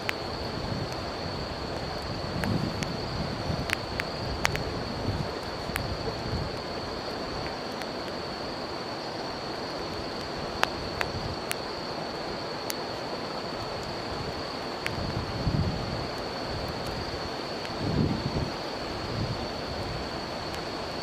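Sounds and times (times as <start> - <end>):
campfire crackling and popping: 0.0 - 21.0
high-pitched insect trill: 0.0 - 21.0
river rushing: 0.0 - 21.0.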